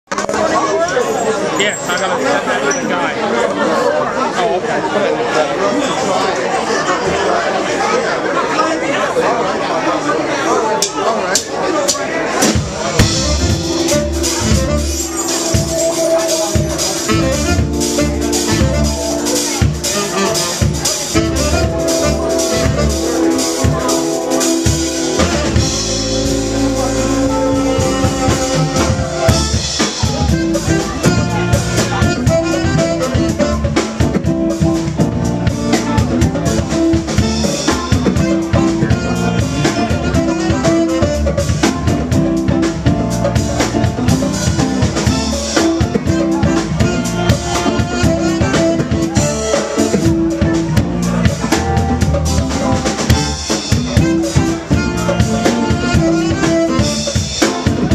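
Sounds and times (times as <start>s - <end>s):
drum kit beat: 10.8s - 57.9s
live rock band playing: 10.8s - 57.9s.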